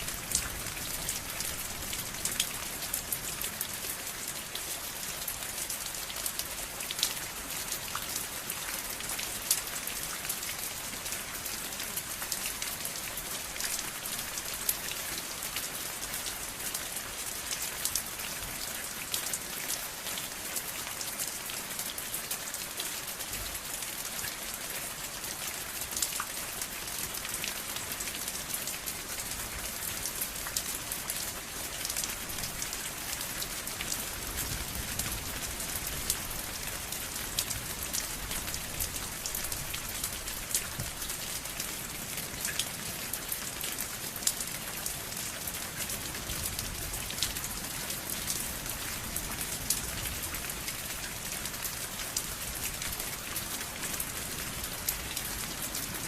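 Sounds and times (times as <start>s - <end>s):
rain pattering on surface: 0.0s - 56.0s.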